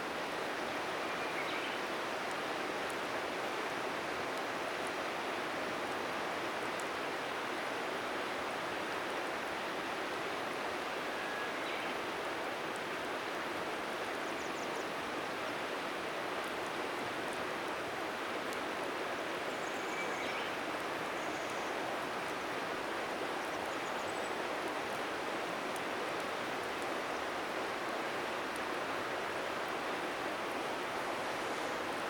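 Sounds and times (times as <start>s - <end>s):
river flowing: 0.0s - 32.0s.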